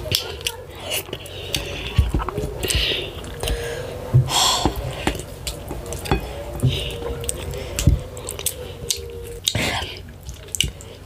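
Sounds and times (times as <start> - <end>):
wet squishy chewing: 0.0 - 11.0.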